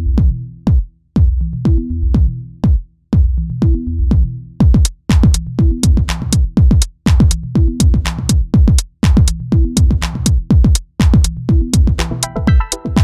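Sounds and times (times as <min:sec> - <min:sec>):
electronic music with drum beat: 0:00.2 - 0:13.0.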